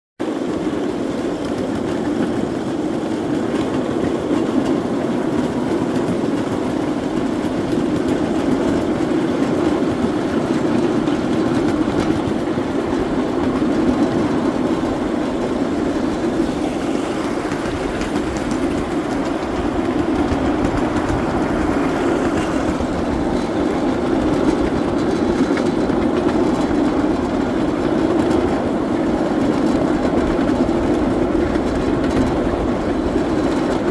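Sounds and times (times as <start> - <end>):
miniature locomotive running on rails: 0.2 - 33.9.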